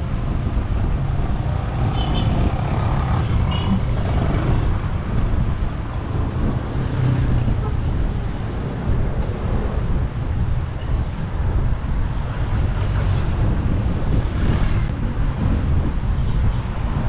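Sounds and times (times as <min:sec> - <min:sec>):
road and traffic noise: 0:00.0 - 0:17.0
wind buffeting microphone: 0:00.0 - 0:17.0.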